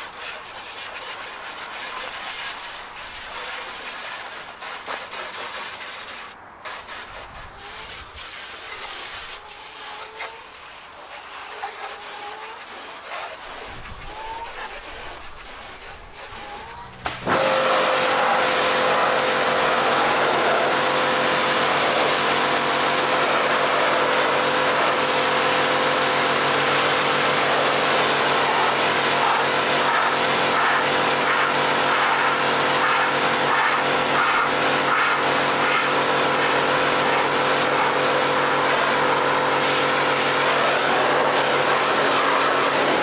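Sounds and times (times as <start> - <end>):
high-pressure water jet hissing: 0.0 - 43.0
light spraying hiss: 0.0 - 43.0
pressure washer pump hum: 0.0 - 43.0.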